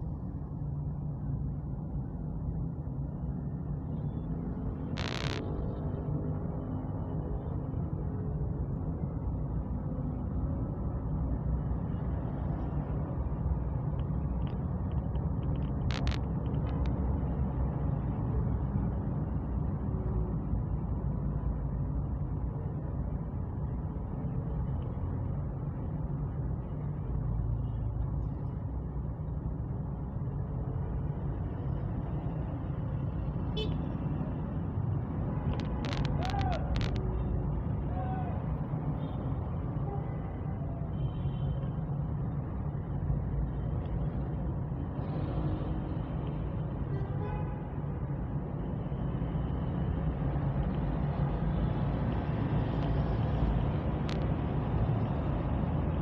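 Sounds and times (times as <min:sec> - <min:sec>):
vehicle rumble with road noise: 0:00.0 - 0:56.0.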